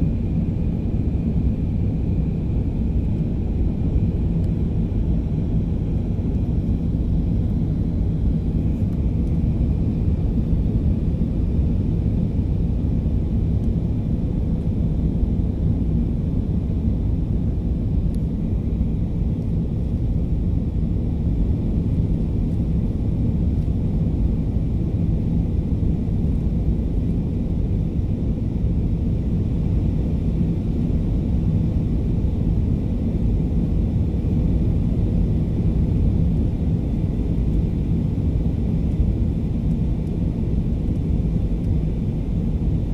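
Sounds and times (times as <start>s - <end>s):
airliner cabin engine rumble: 0.0s - 42.9s
faint constant hum: 0.0s - 42.9s.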